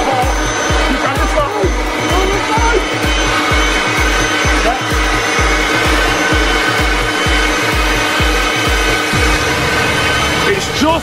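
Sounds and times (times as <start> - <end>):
leaf blower running: 0.0 - 11.0
music with fast beat: 0.0 - 11.0.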